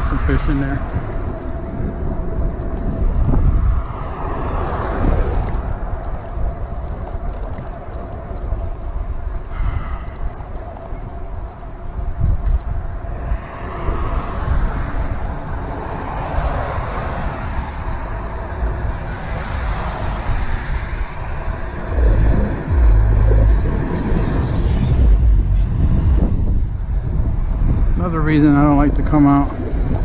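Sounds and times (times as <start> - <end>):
road and traffic noise: 0.0 - 30.0
wind rumbling on microphone: 0.0 - 30.0.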